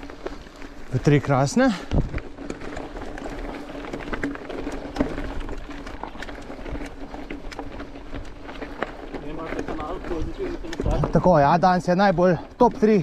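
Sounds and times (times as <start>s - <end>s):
bike clicking and rattling: 0.0s - 13.0s
bike tyres crunching on gravel: 0.0s - 13.0s.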